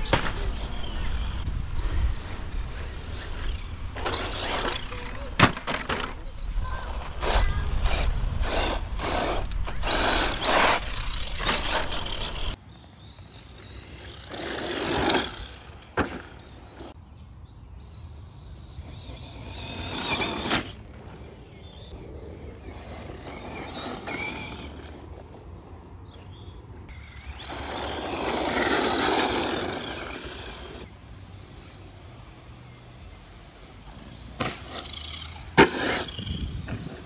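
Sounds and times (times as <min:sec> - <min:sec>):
rc truck driving by: 0:00.0 - 0:17.0, 0:17.9 - 0:37.0.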